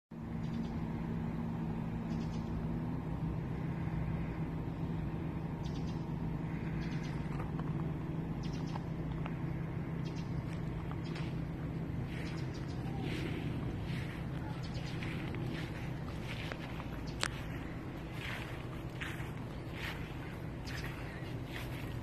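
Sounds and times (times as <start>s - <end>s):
low machine hum: 0.1s - 22.0s.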